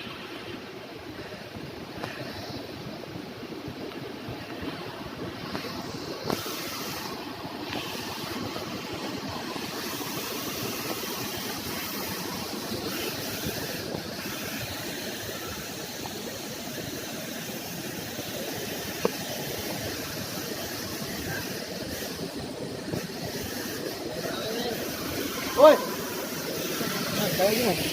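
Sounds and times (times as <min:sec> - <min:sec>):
waterfall roar: 0:00.0 - 0:27.9.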